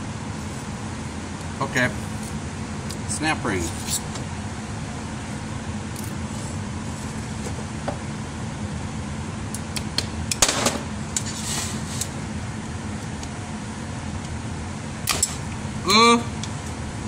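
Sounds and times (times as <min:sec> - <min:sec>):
low shop hum: 0:00.0 - 0:17.0.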